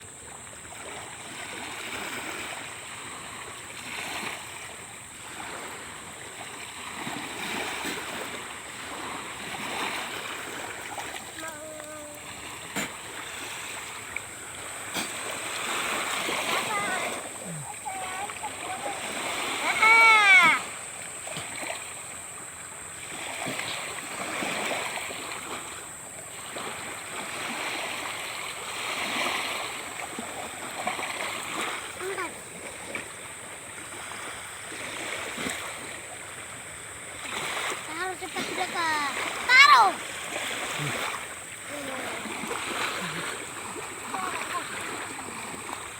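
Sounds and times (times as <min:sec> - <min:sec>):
water rushing at shore: 0:00.0 - 0:45.9.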